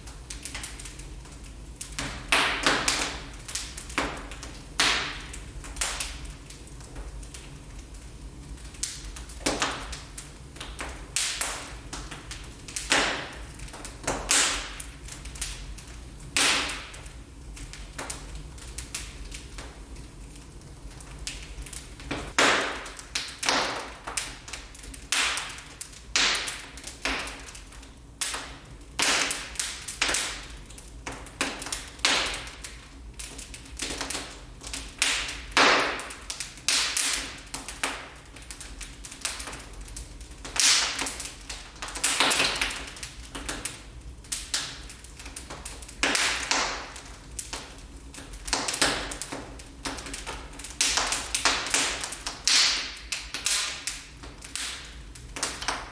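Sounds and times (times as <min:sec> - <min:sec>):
sharp snaps and pops: 0:00.0 - 0:55.9
wood fire crackling: 0:00.0 - 0:55.9.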